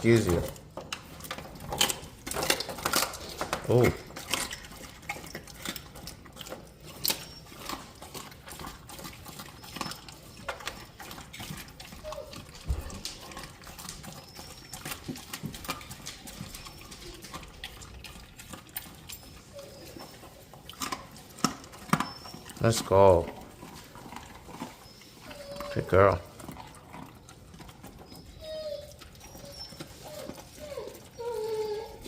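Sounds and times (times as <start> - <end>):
dog chewing meat and bone: 0.0 - 32.0.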